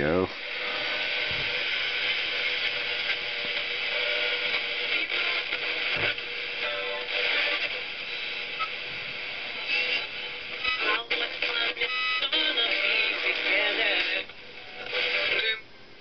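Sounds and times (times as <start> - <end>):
radio music through small speaker: 0.0 - 15.7
radio hiss: 0.0 - 16.0.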